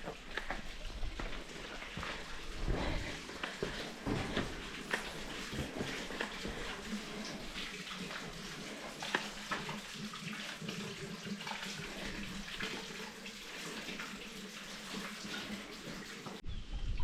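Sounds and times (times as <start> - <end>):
running water splashing: 0.0 - 16.4.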